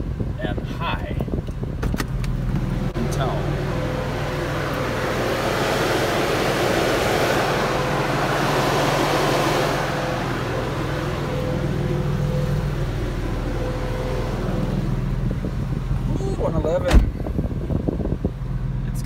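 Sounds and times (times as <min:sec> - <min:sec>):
car engine idling: 0:00.0 - 0:19.0
radiator cooling fans rushing: 0:00.0 - 0:19.0.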